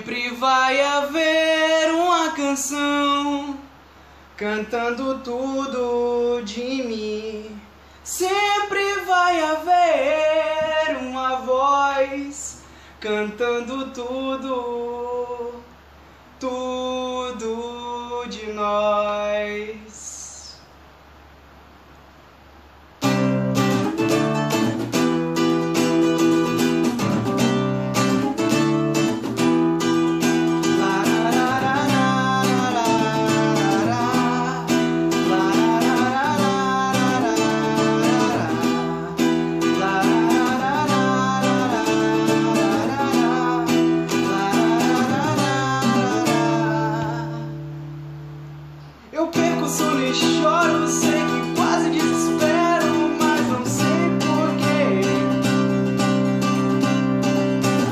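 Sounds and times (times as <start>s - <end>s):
acoustic guitar strumming: 0.0s - 3.6s, 4.4s - 15.6s, 23.0s - 57.9s.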